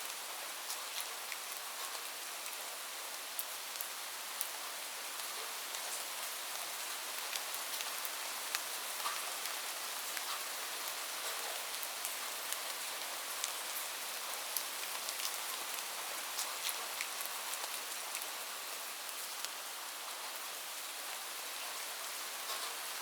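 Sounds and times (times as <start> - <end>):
light rain hiss: 0.0 - 23.0.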